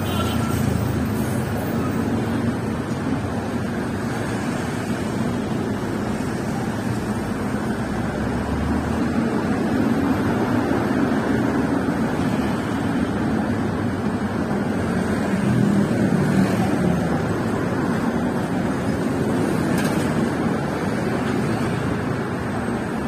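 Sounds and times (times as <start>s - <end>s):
city street traffic rumble: 0.0s - 23.0s.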